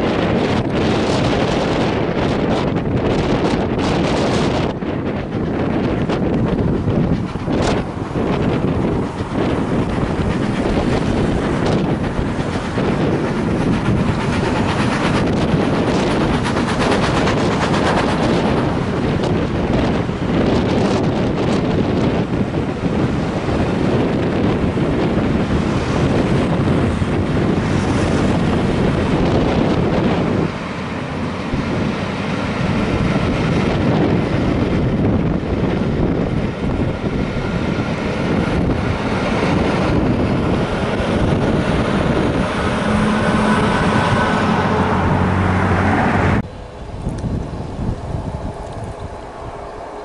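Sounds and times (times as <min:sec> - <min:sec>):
train wheels rumbling on rails: 0:00.0 - 0:50.0
wind buffeting microphone: 0:00.0 - 0:50.0.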